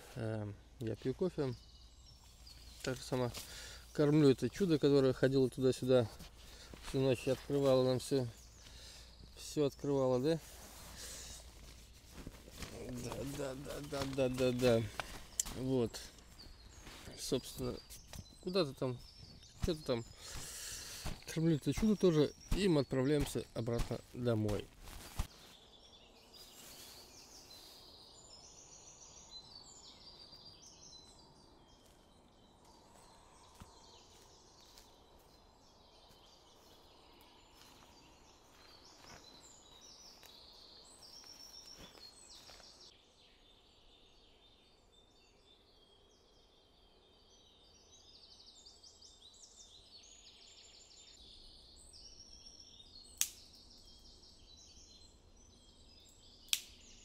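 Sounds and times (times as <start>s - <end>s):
distant birds chirping: 0.0s - 57.0s.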